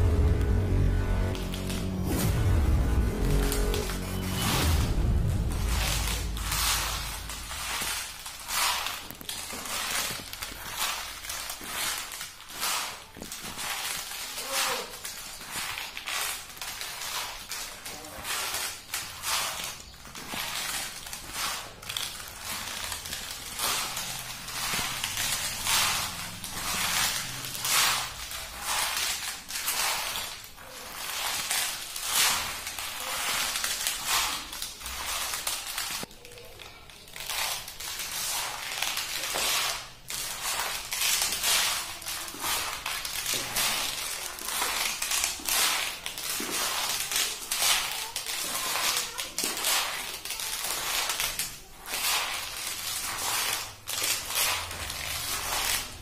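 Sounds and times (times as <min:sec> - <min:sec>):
leather sandals creaking with steps: 0:05.3 - 0:56.0.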